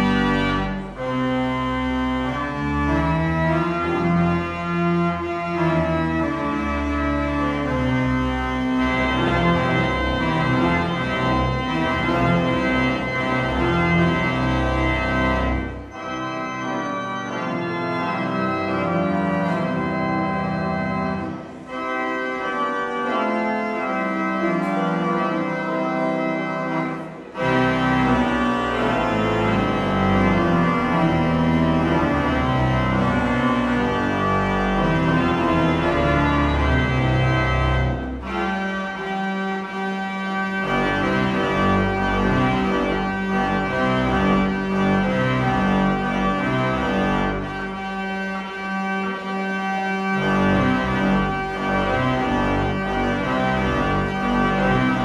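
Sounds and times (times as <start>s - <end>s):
church organ playing chords: 0.0s - 55.0s
deep organ pedal bass: 0.0s - 55.0s.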